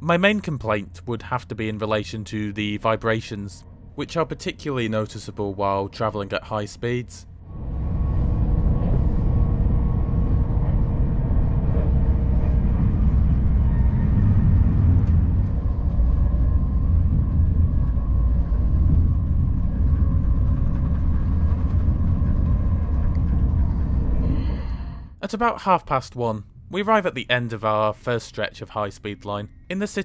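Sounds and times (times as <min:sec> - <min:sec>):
faint steady hum: 0:00.0 - 0:30.0
train wheels rumbling: 0:00.2 - 0:25.2.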